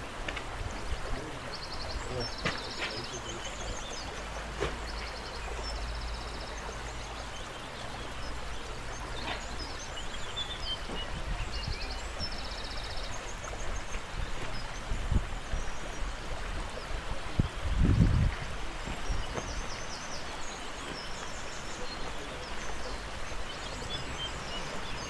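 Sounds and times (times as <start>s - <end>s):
small birds trilling: 0.0s - 25.0s
stream rushing: 0.0s - 25.0s.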